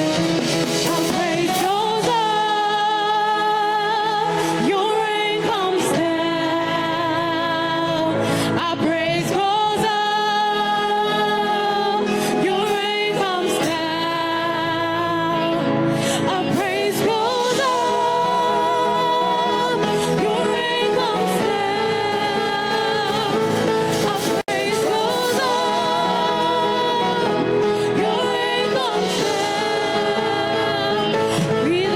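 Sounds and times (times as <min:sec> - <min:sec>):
instrumental accompaniment: 0:00.0 - 0:31.9
solo gospel singing: 0:00.0 - 0:31.9.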